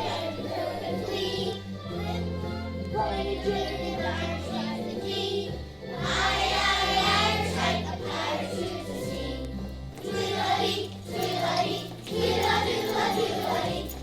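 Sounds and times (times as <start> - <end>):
children singing: 0.0 - 14.0
recorded musical accompaniment: 0.0 - 14.0.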